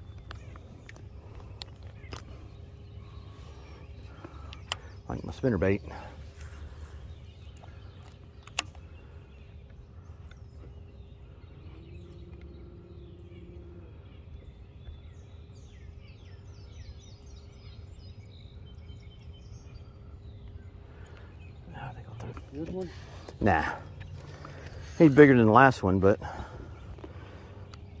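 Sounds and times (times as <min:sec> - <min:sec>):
birds chirping: 0:00.0 - 0:28.0
faint hum: 0:00.0 - 0:28.0
low steady rumble: 0:00.0 - 0:28.0.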